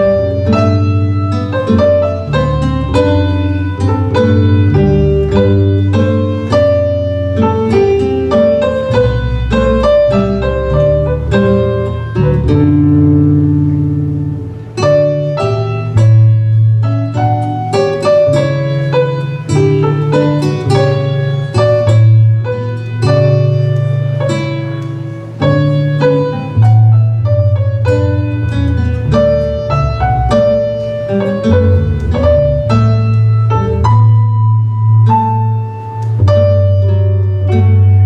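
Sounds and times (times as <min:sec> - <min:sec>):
held bass line: 0:00.0 - 0:38.0.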